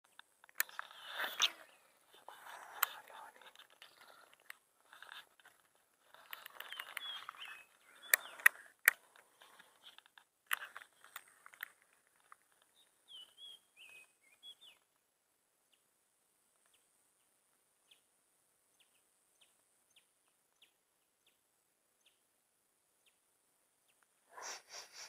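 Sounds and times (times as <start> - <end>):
faint bird chirps: 0.1 - 10.0, 12.5 - 14.9, 16.6 - 22.3, 23.0 - 25.0.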